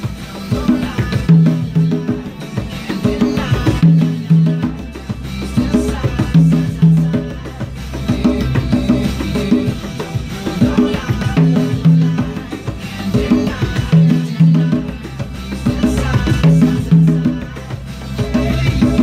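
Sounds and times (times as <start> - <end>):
conga drums played by hand: 0.0 - 19.0
pop song from tv: 0.0 - 19.0.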